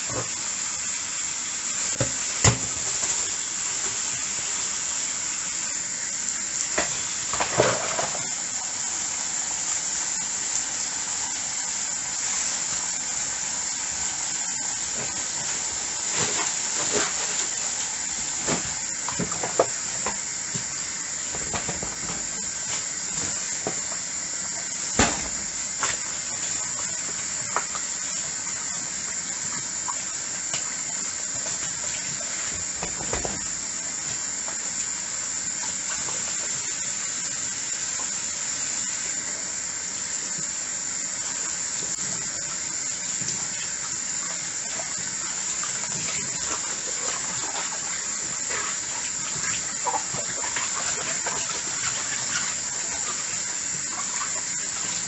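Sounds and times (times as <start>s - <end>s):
tap water running into sink: 0.0s - 55.0s.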